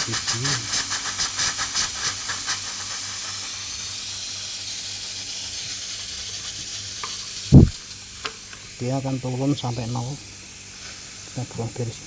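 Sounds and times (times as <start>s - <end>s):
refrigerant gas hissing: 0.0s - 12.0s.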